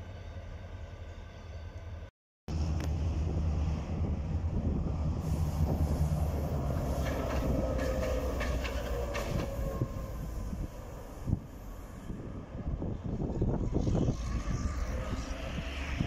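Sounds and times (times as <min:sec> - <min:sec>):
diesel locomotive engines rumbling: 0:00.0 - 0:16.0.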